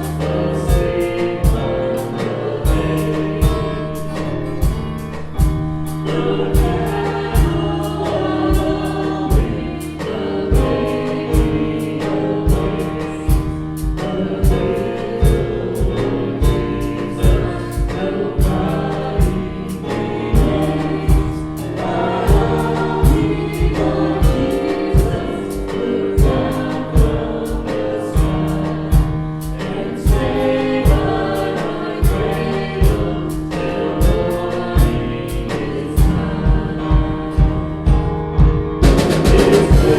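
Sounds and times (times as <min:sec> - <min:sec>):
choir singing gospel music: 0:00.0 - 0:39.9
steady drum beat: 0:00.0 - 0:39.9.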